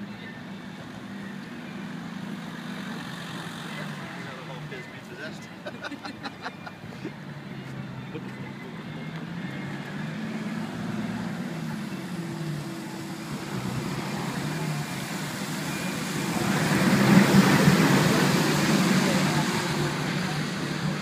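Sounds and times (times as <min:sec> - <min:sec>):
tyres on wet road: 0:00.0 - 0:21.0
vehicle engine running: 0:00.0 - 0:21.0.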